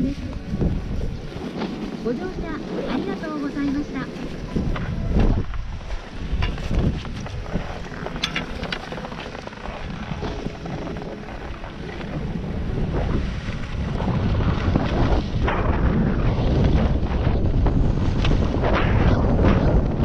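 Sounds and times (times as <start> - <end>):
skis sliding over snow: 0.0 - 20.0
wind rushing over microphone: 0.0 - 20.0.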